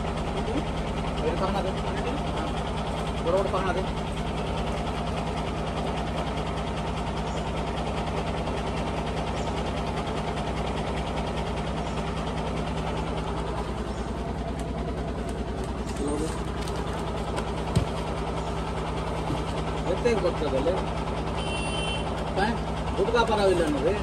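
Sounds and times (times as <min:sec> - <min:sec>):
diesel lorry engine idling: 0:00.0 - 0:24.0.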